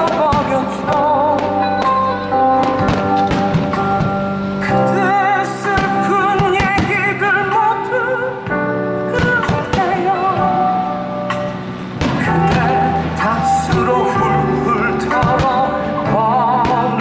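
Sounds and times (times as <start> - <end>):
instrumental chords: 0.0 - 17.0
person singing with vibrato: 0.0 - 17.0.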